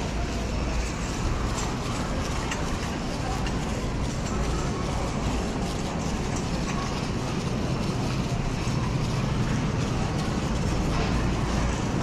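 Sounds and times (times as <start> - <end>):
shopping cart wheels rumbling: 0.0 - 12.0
store background noise: 0.0 - 12.0.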